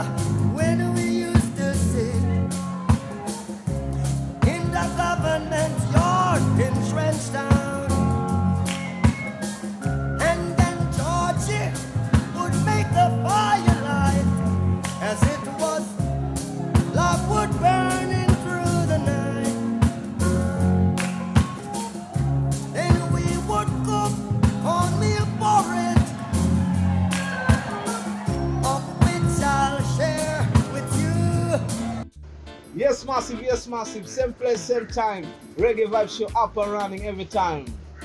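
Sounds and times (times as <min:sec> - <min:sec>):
reggae song with sung vocal: 0:00.0 - 0:32.0.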